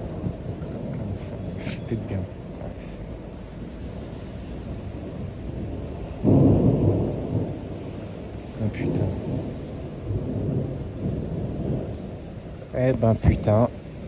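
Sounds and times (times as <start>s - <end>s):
thunder clap: 0.0s - 3.3s, 3.9s - 13.8s
low thunder rumbling: 0.0s - 14.0s.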